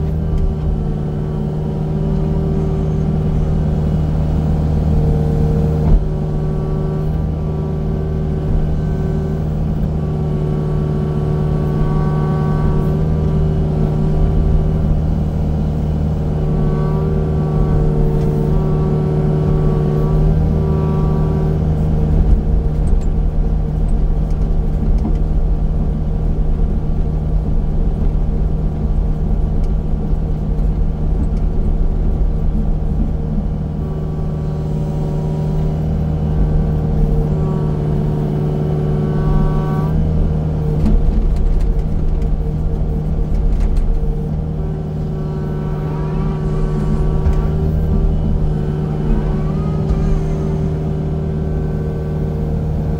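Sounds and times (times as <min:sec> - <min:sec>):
heavy machine engine running: 0:00.0 - 0:52.9.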